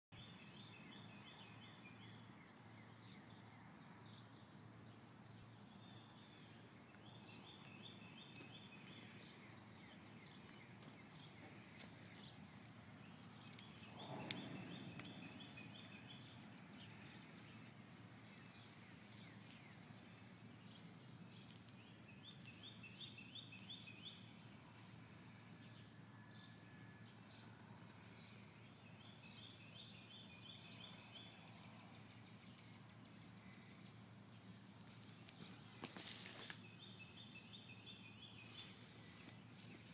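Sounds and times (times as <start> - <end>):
faint birdsong trills: 0.1 - 39.9
quiet hiss: 0.2 - 39.9.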